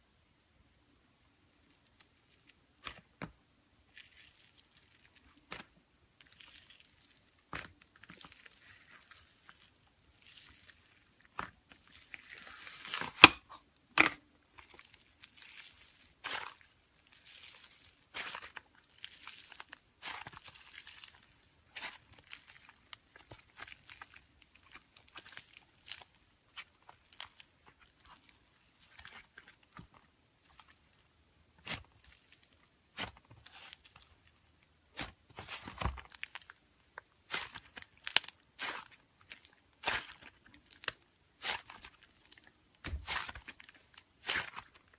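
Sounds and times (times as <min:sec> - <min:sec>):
slime crackling and snapping: 0:03.9 - 0:31.0, 0:31.6 - 0:44.9.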